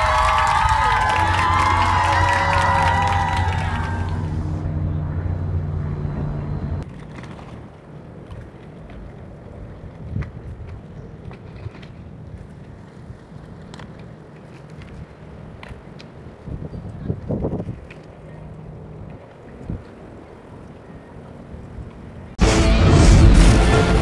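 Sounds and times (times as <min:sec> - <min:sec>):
wind rumbling on microphone: 0:00.0 - 0:22.4.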